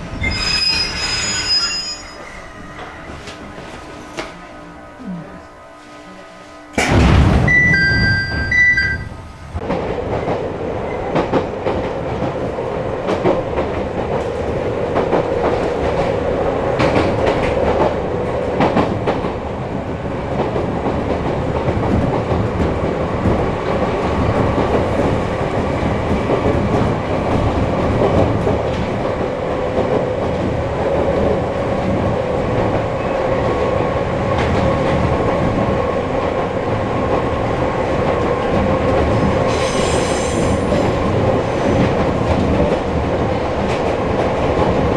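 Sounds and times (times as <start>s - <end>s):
train wheels rumbling on rails: 0.0s - 4.6s, 6.7s - 44.9s
train hum: 0.0s - 44.9s
rail joint clacks: 6.8s - 44.9s.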